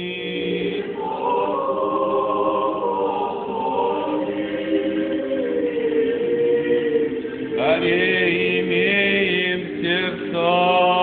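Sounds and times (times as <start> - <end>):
choir singing a chant: 0.0 - 11.0.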